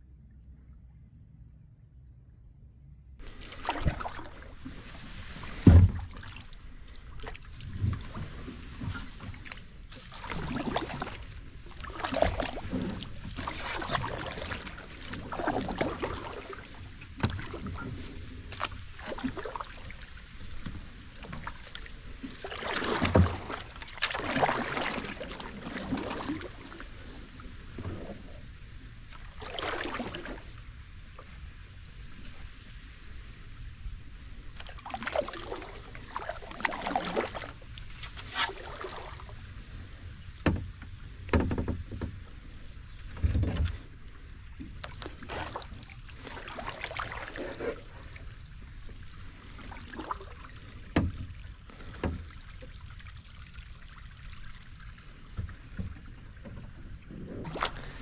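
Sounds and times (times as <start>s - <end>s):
paddle splashing in water: 3.2s - 58.0s.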